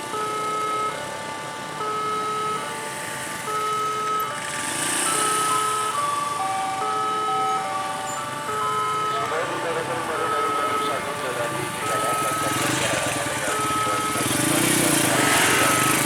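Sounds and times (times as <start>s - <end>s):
lower alternating alarm tones: 0.0s - 16.0s
road traffic noise: 0.0s - 16.0s
level crossing alarm two tones: 0.1s - 2.8s, 3.4s - 16.0s.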